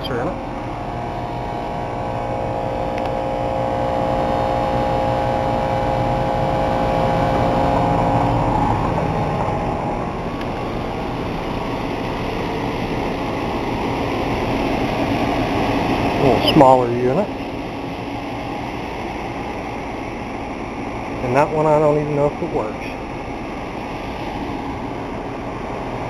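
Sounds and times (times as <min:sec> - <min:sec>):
air conditioner fan rushing: 0:00.0 - 0:26.0
compressor humming: 0:00.0 - 0:26.0
steady tones: 0:00.0 - 0:26.0.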